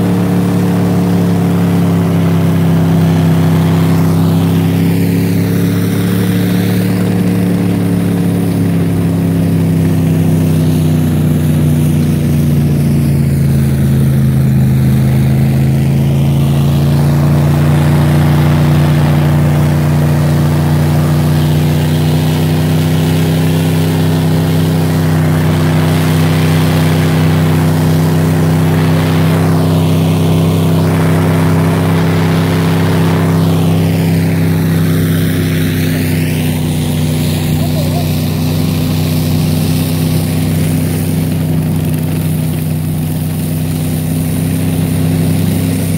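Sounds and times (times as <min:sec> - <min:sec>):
snowcat engine running: 0:00.0 - 0:45.9
rushing hiss: 0:00.1 - 0:45.9.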